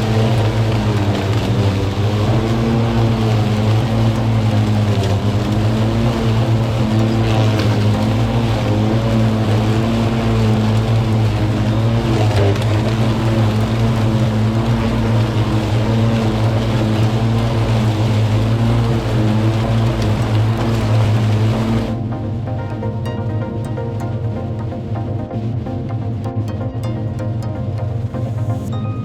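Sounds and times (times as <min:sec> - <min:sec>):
lawn mower running: 0:00.0 - 0:25.2.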